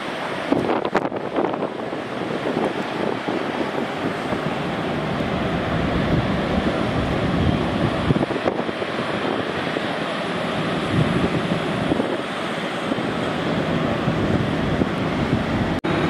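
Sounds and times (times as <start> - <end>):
jet engine noise: 0.0 - 16.0
wind buffeting microphone: 0.0 - 16.0.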